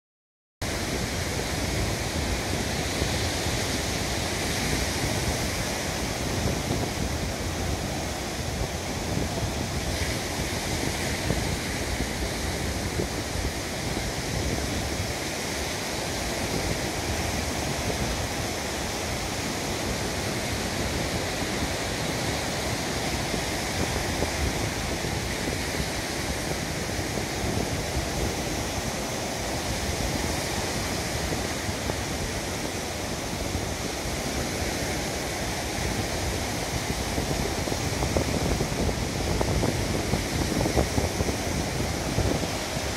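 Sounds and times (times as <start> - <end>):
waves on pebble beach: 0.6 - 42.9
wind on microphone: 0.6 - 42.9.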